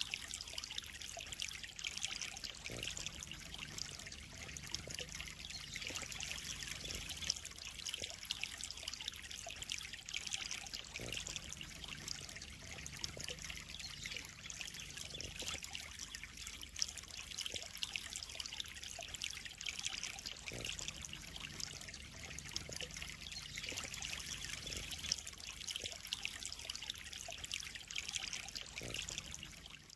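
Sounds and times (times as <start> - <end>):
water trickling into a pond: 0.0 - 29.9.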